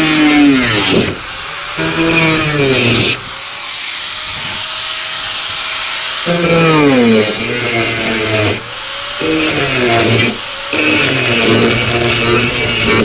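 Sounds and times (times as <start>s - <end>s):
electric power saw cutting: 0.0s - 13.0s.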